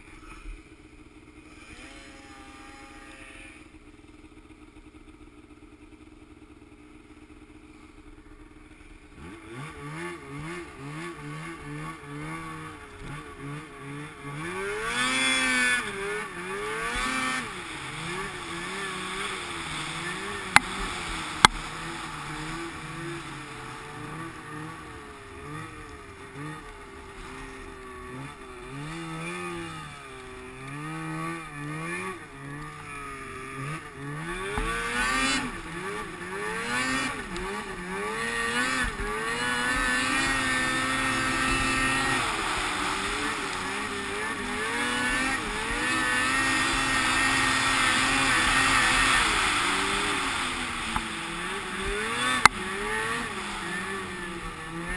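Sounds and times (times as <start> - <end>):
snowmobile engine running: 0.0 - 54.9.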